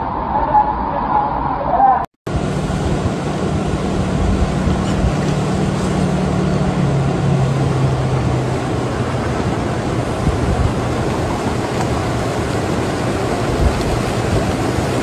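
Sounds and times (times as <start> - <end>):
rushing floodwater: 2.3 - 15.0
vehicle engine humming: 2.3 - 15.0.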